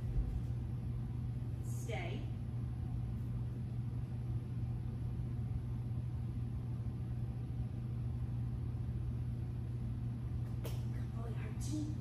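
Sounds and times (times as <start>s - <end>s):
steady low hum with rumble: 0.0s - 12.0s.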